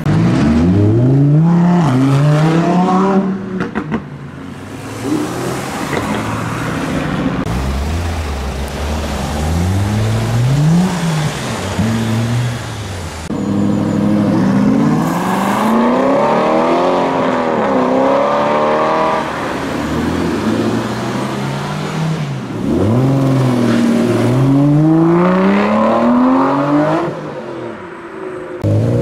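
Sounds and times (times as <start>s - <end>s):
sports cars accelerating: 0.0s - 27.8s.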